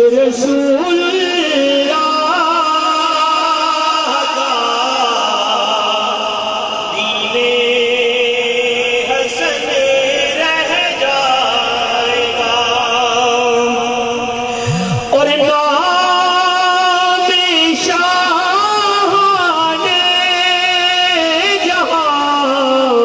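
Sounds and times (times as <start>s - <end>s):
man chanting through a pa system: 0.0s - 23.0s.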